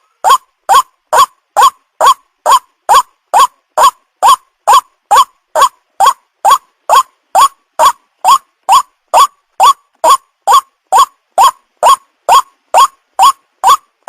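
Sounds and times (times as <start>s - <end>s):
waterhen call: 0.0s - 14.0s.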